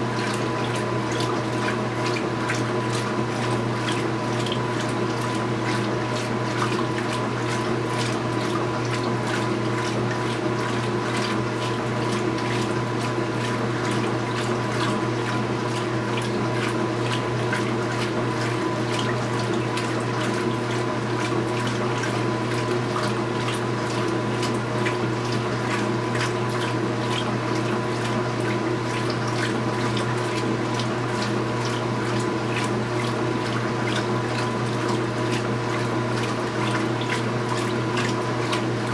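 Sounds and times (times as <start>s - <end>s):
washing machine hum: 0.0s - 38.9s
water pouring into tub: 0.0s - 38.9s.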